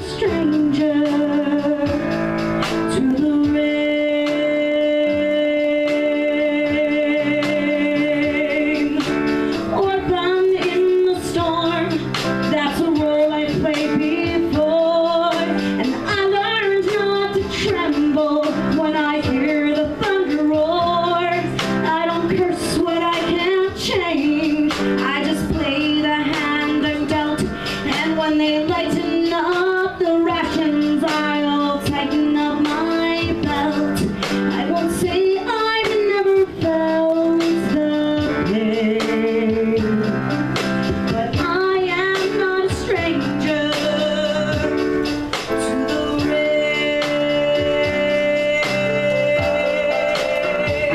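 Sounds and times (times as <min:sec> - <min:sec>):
piano accompaniment: 0:00.0 - 0:50.9
woman singing: 0:00.0 - 0:50.9.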